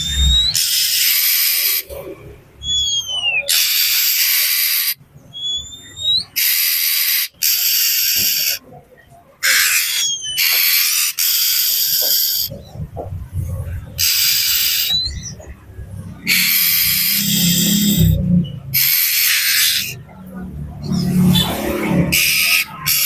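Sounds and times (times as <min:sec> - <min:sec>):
bird harsh scolding calls: 0:00.0 - 0:08.6, 0:09.4 - 0:12.8, 0:13.8 - 0:20.1, 0:20.8 - 0:23.0.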